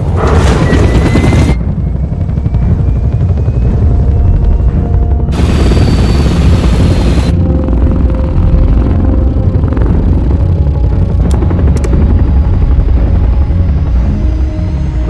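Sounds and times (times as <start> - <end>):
helicopter rotors and turbines: 0.0 - 15.0.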